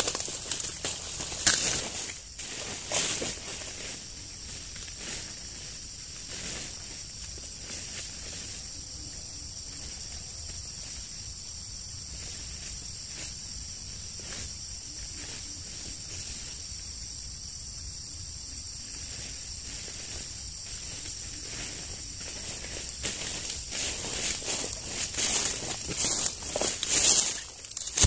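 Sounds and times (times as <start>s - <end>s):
leaves rustling: 0.0s - 16.8s, 18.7s - 28.0s
high-pitched insect drone: 0.0s - 28.0s.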